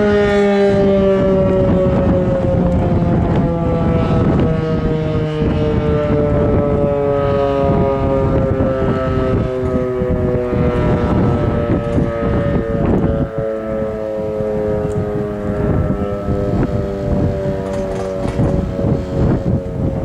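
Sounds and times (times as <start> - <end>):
outdoor warning siren: 0.0 - 20.0
wind buffeting microphone: 0.0 - 20.0.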